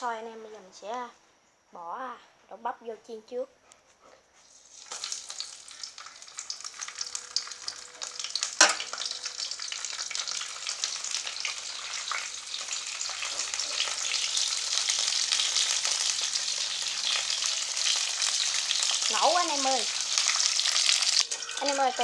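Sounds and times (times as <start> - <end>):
okra sizzling in hot oil: 4.4 - 22.0.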